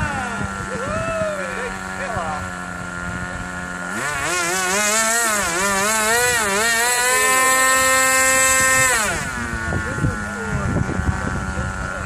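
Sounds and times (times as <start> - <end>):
model aircraft engine buzzing: 0.0 - 12.0.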